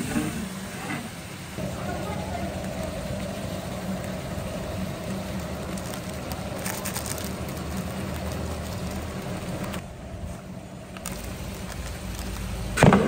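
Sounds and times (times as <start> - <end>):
cooking fire rumbling: 0.0 - 13.0
faint fire crackles: 0.0 - 13.0.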